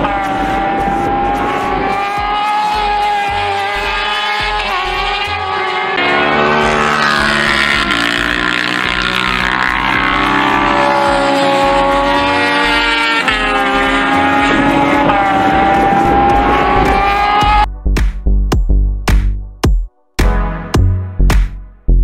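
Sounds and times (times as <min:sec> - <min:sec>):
racing motorcycles changing gear: 0:00.0 - 0:17.7.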